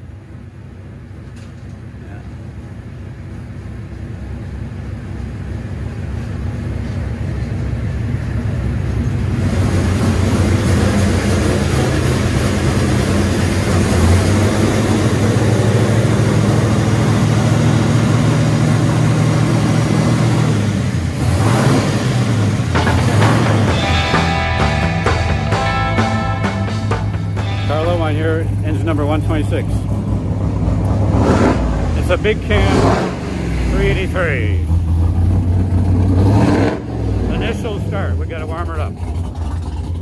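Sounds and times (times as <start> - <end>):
engine running under load: 0.0 - 40.0.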